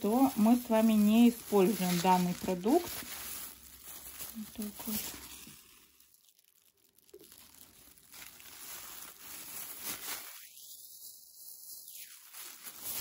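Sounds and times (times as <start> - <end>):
plastic gloves crinkling: 0.0 - 13.0.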